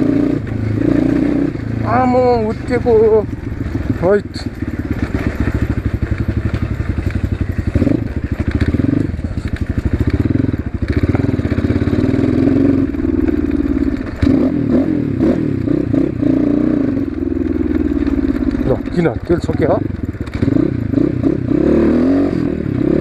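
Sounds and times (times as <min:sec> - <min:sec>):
dirt bike engine exhaust: 0:00.0 - 0:23.0.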